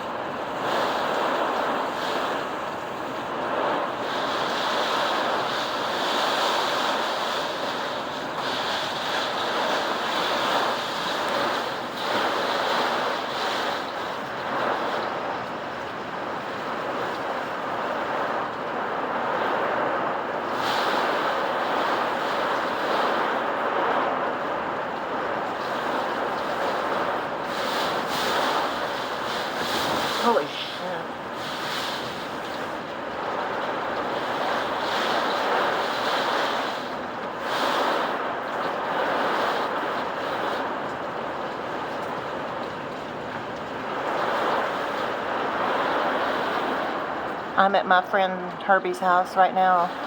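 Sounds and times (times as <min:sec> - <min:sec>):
strong wind gusting: 0:00.0 - 0:50.0.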